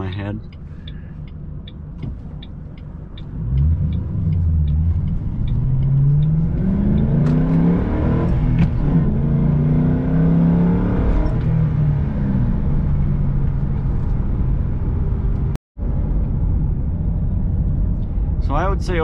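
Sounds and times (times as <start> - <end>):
car engine accelerating: 0.0 - 18.6.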